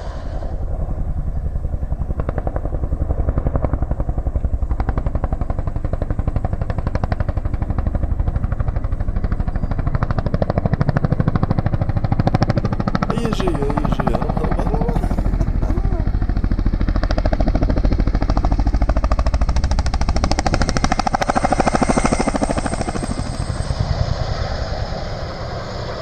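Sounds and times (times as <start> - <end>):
helicopter rotor blades beating: 0.0 - 26.0.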